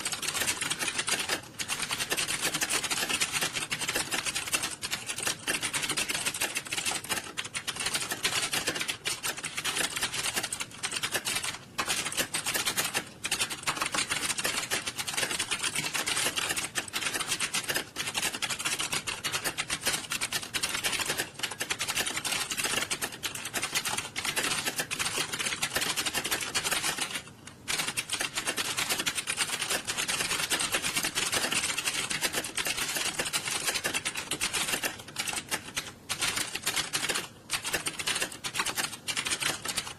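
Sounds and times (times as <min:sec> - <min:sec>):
clatter of many keyboards typing: 0:00.0 - 0:39.9.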